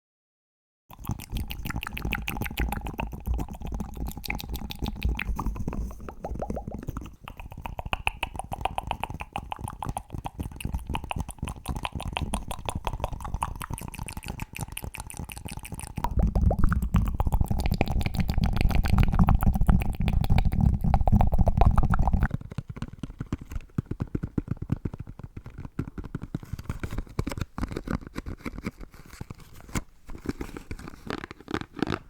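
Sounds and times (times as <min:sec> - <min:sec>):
fast tapping: 0:00.9 - 0:28.7
mouth clicks and wet pops: 0:00.9 - 0:32.0.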